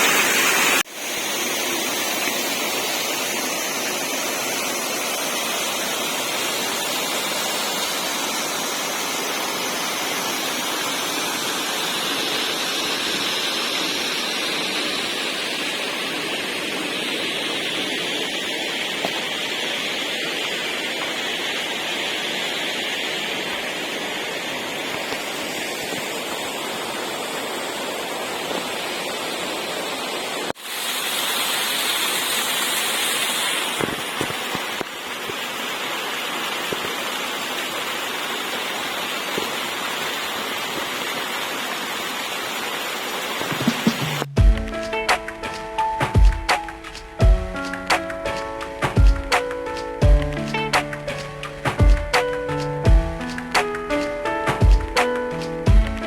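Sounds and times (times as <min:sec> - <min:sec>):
waterfall pouring: 0:00.0 - 0:56.0.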